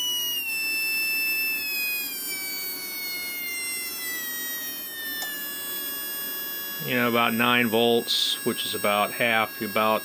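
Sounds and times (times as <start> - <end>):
small electric motor whine: 0.0 - 10.0.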